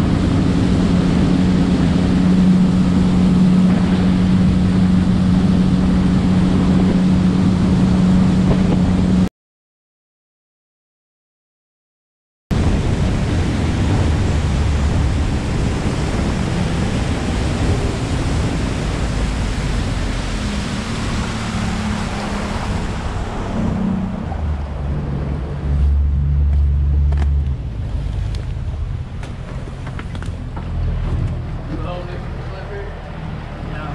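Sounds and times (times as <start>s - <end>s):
boat motor running: 0.0s - 9.3s, 12.6s - 33.9s
rush of wind and water: 0.0s - 9.3s, 12.5s - 33.9s.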